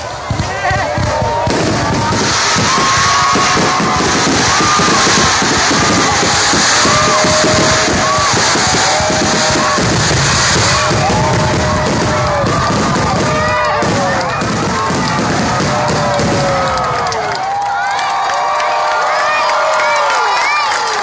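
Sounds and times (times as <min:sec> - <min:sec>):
fireworks bursting and crackling: 0:00.0 - 0:17.8.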